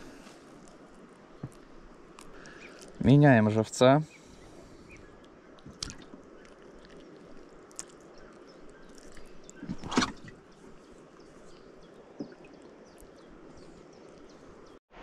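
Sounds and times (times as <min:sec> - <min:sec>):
quiet water sounds: 0:00.0 - 0:15.0.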